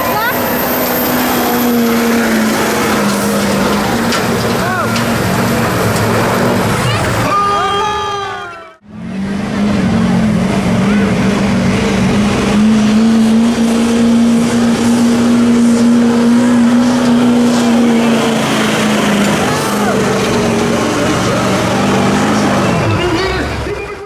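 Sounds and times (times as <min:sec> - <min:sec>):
truck engine at high revs: 0:00.0 - 0:07.4, 0:08.8 - 0:24.0.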